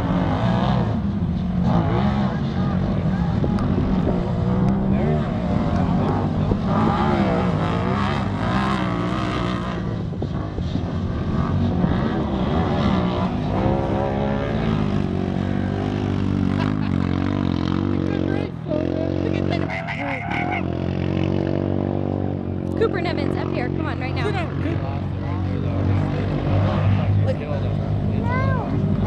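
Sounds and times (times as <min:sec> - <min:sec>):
engines racing and revving: 0:00.0 - 0:29.0.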